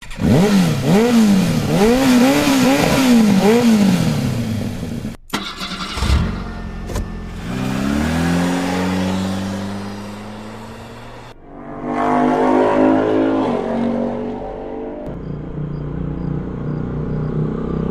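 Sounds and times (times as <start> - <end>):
motorcycle engine revving: 0.0 - 17.9.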